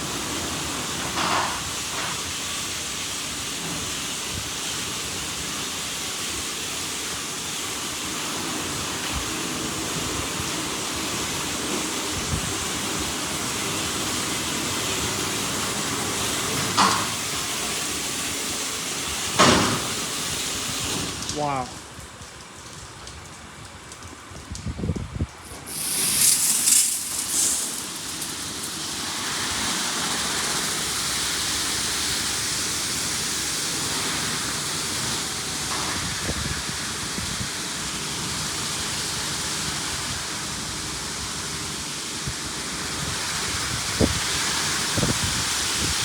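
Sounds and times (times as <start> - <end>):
water spray hissing on car: 0.0 - 22.5, 25.3 - 46.0.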